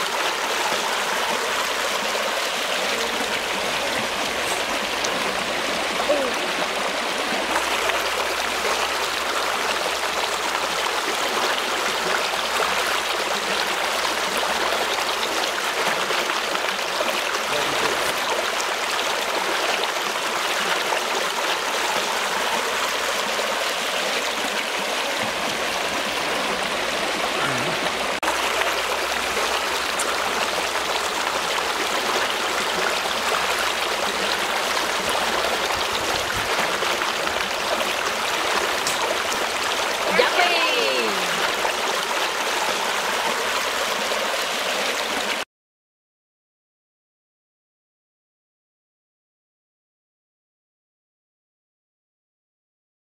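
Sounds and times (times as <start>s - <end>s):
stream water over rocks: 0.0s - 45.4s.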